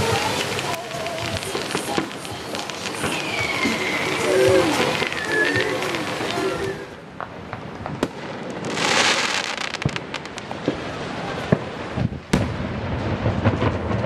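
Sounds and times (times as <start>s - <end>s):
firework hiss: 0.0s - 14.0s
fireworks pops and bangs: 0.0s - 14.0s.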